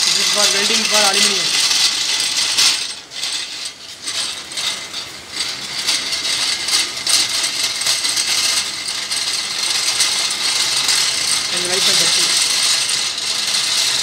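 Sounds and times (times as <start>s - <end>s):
rotating tool grinding metal: 0.0s - 14.0s.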